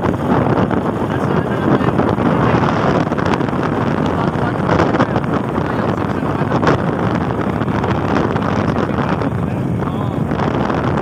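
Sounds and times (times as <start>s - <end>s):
vehicle driving on concrete road: 0.0s - 11.0s
wind buffeting microphone: 0.0s - 11.0s.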